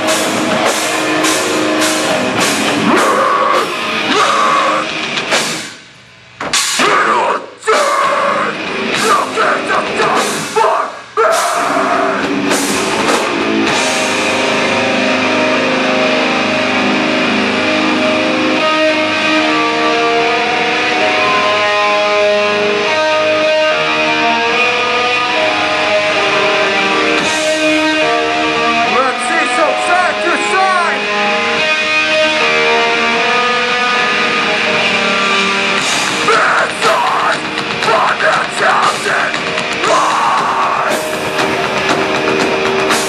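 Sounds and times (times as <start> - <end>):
live heavy rock band: 0.0 - 43.0.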